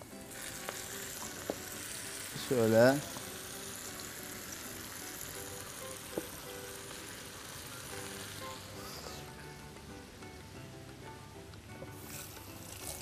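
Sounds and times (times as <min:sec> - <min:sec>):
spinach sizzling in a pot: 0:00.0 - 0:10.2, 0:11.8 - 0:13.0.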